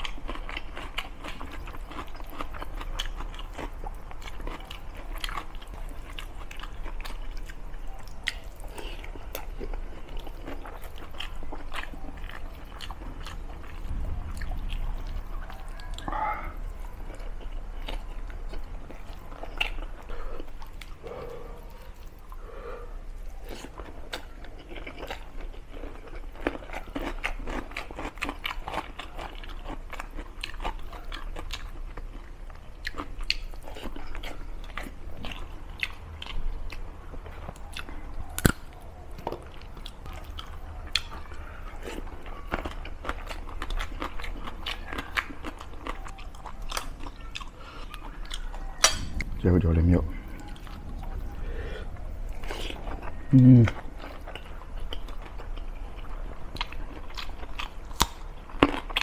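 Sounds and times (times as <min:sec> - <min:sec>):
man chewing and eating: 0:00.0 - 0:59.0.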